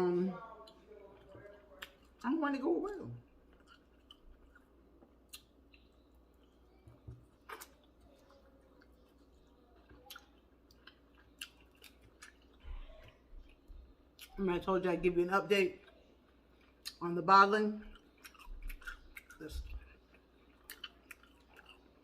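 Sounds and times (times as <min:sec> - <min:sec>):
chewing and eating: 0:00.4 - 0:14.6, 0:15.7 - 0:17.0, 0:17.8 - 0:22.0.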